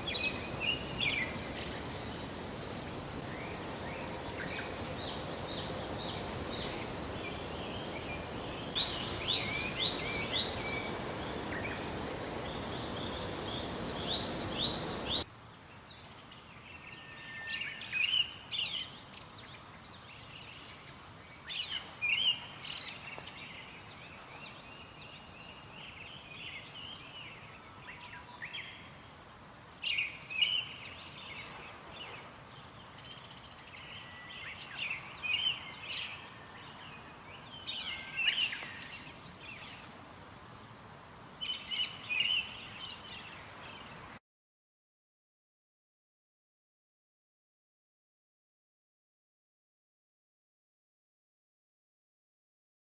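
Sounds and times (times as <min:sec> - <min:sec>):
background hiss: 0:00.0 - 0:44.2.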